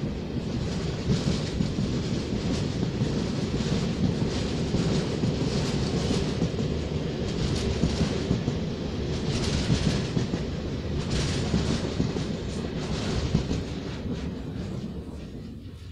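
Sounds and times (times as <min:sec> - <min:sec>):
freight train wagons rumbling: 0:00.0 - 0:15.9
train wheels clattering: 0:00.0 - 0:15.9.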